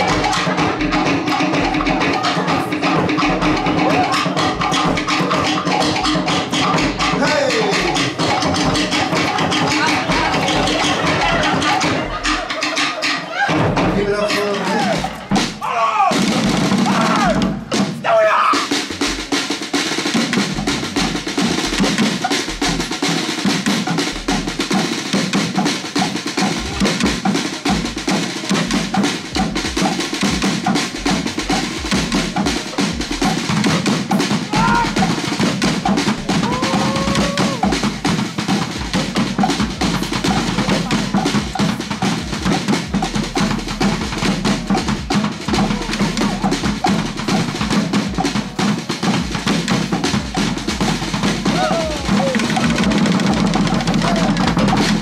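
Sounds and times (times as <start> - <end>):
fast drum ensemble rhythm: 0.0 - 55.0.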